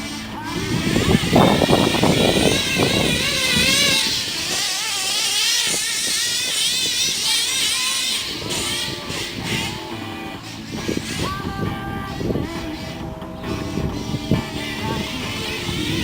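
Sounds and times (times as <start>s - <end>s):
model engine high-pitched whine: 0.0s - 16.0s.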